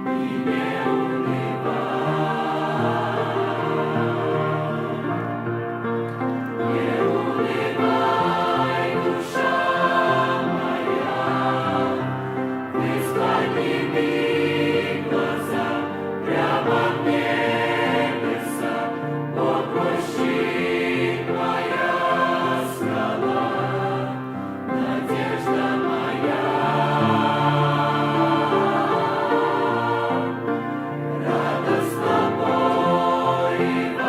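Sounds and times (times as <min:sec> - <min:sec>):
church choir singing a hymn: 0:00.0 - 0:34.0.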